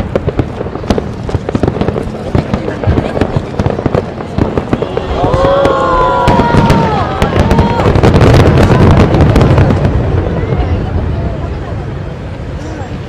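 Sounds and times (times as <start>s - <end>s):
fireworks booming and crackling: 0.0s - 13.0s.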